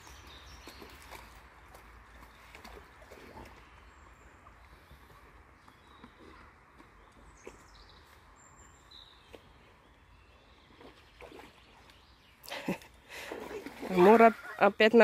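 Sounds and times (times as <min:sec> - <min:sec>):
dog wading through stream: 0:00.0 - 0:15.0.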